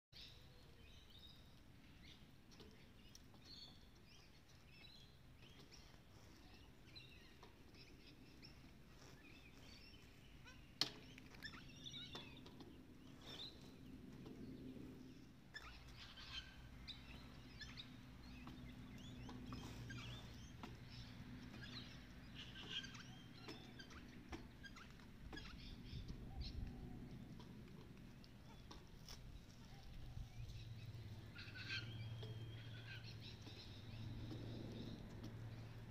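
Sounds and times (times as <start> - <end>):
small birds chirping: 0.2 - 35.9.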